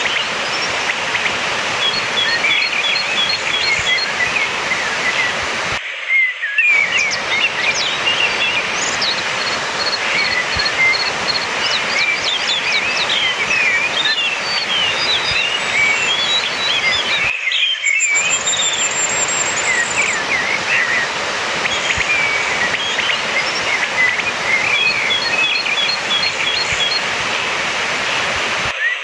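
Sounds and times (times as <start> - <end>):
thrush singing whistled phrases: 0.0 - 27.3.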